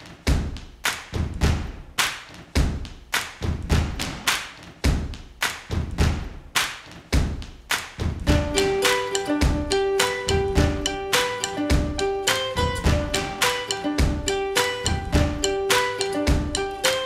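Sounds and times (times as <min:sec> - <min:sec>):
drum beat thudding: 0:00.0 - 0:17.0.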